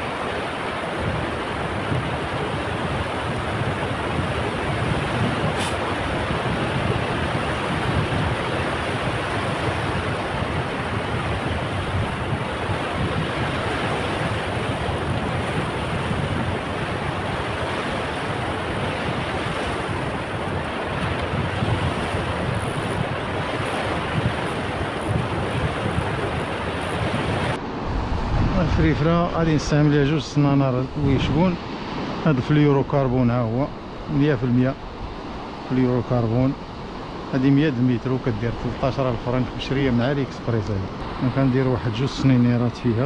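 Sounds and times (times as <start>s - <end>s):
surf breaking on beach: 0.0s - 35.9s
wind rumbling on microphone: 0.0s - 43.0s.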